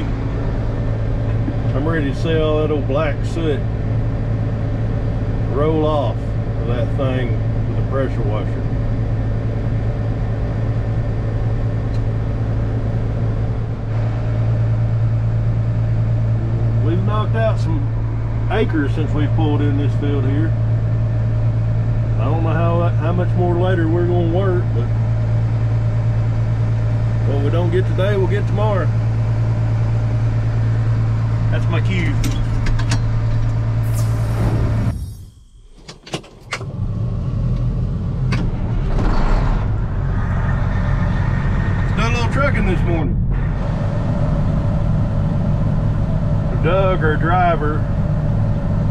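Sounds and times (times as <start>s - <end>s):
diesel engine droning in cab: 0.0s - 48.9s.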